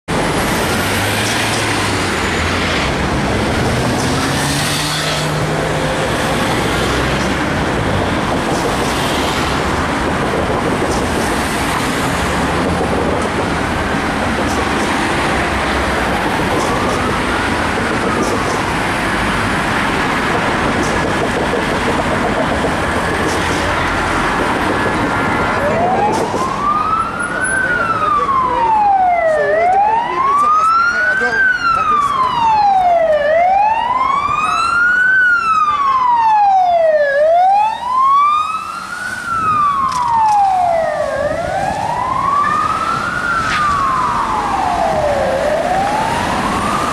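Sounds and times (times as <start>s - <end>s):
city street traffic: 0.1s - 46.9s
distant police siren wailing: 0.2s - 46.9s.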